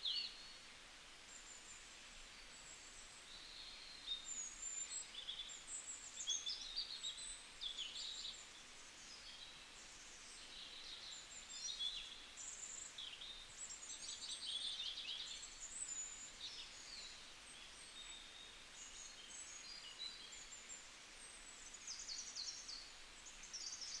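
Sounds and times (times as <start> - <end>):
faint steady hiss: 0.0 - 24.0
small birds chirping: 2.4 - 24.0.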